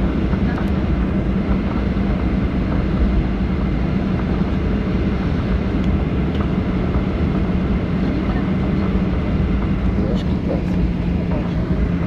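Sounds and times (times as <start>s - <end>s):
airliner cabin rumble: 0.0s - 12.0s
constant low hum: 0.0s - 12.0s.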